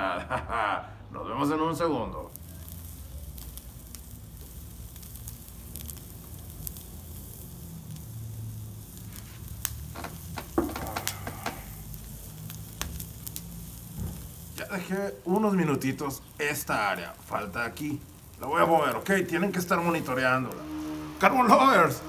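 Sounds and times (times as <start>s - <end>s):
fire crackling: 0.0s - 22.0s
skewer sizzling over charcoal: 0.0s - 22.0s.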